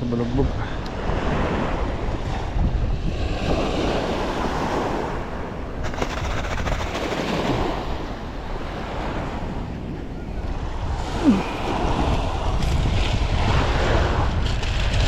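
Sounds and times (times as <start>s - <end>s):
wind buffeting microphone: 0.0s - 15.0s
sea waves: 0.4s - 14.9s.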